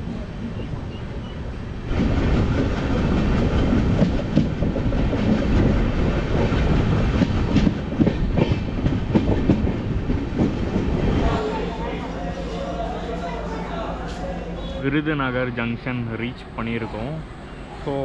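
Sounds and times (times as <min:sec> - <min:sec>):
train wheels running on rails: 0:00.0 - 0:17.2.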